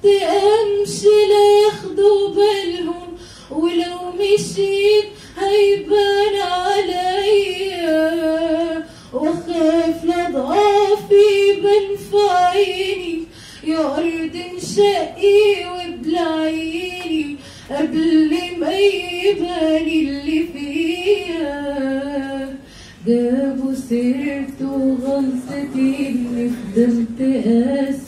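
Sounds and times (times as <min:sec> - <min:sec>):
girl singing: 0:00.0 - 0:28.0.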